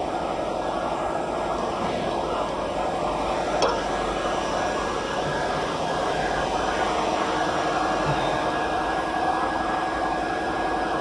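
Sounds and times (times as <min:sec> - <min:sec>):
workshop machinery drone: 0:00.0 - 0:11.0.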